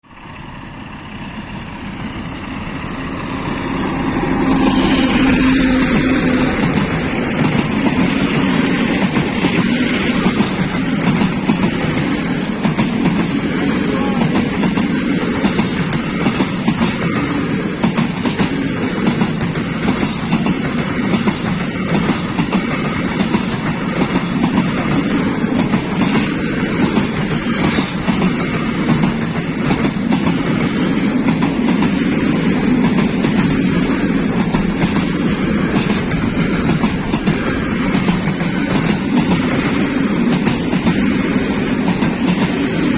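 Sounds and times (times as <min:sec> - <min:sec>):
steel wheels on rails: 0:00.1 - 0:42.9
clickety-clack over rail joints: 0:00.2 - 0:42.9.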